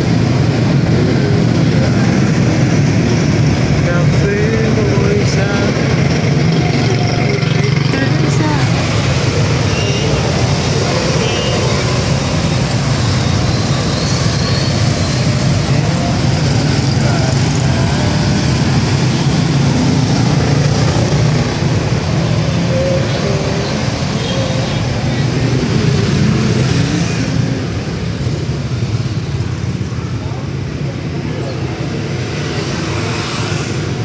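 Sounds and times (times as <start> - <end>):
road traffic din: 0.0 - 34.0.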